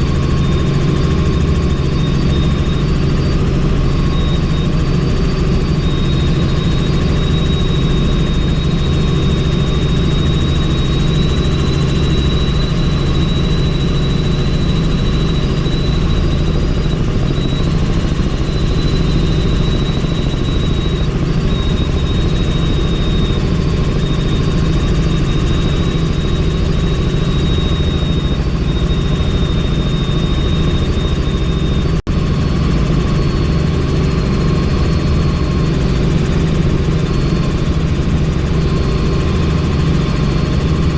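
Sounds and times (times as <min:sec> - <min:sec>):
helicopter drone with turbine whine: 0:00.0 - 0:40.9.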